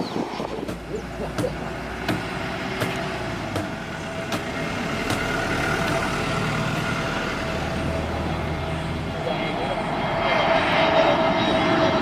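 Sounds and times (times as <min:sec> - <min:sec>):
jet airliner engine whine: 0:00.0 - 0:12.0
low rumble of traffic: 0:00.0 - 0:12.0.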